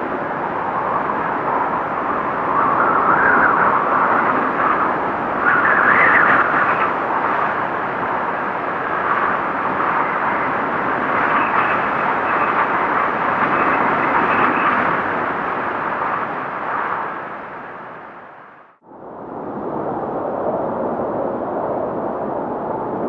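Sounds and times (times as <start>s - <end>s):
strong blizzard wind: 0.0s - 23.0s.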